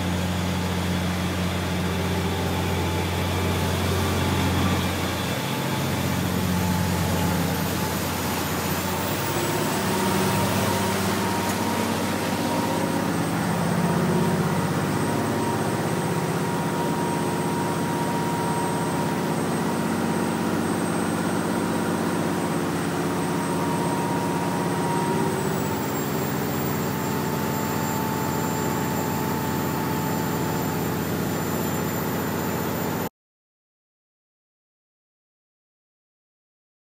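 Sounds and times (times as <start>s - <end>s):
wake water rushing along hull: 0.0s - 33.0s
motor boat engines running: 0.0s - 33.1s.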